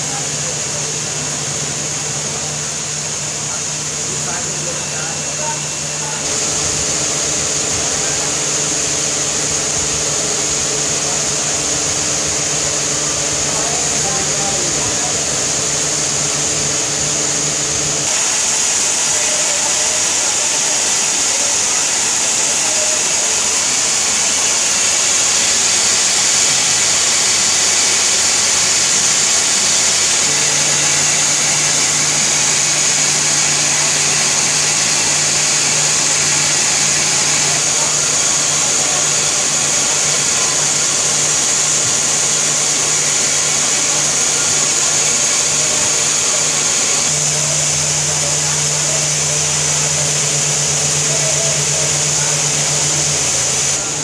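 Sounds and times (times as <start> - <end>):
high hiss: 0.0 - 54.0.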